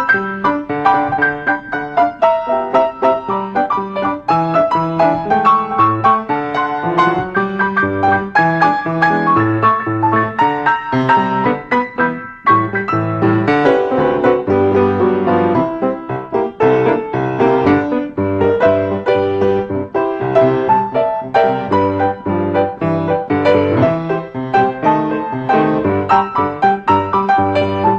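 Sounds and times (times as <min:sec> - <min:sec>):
brisk piano tune: 0:00.0 - 0:27.9.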